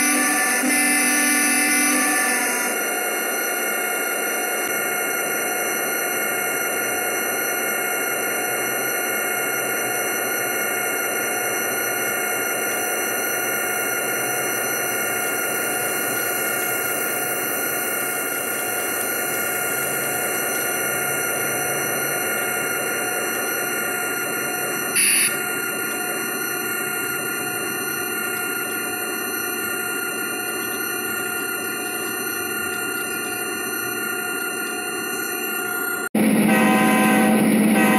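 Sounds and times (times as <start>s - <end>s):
model train running: 0.0s - 37.9s.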